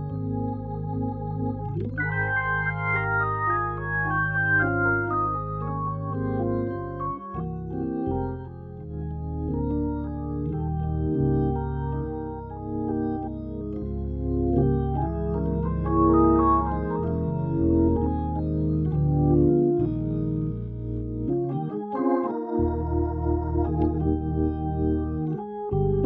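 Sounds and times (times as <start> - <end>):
gospel organ chords: 0.0 - 26.0
organ bass line: 0.0 - 26.0.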